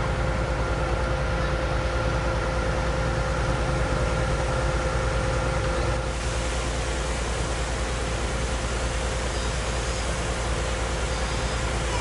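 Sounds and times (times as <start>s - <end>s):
engine running steadily: 0.0s - 12.0s
faint steady whine: 0.0s - 12.0s.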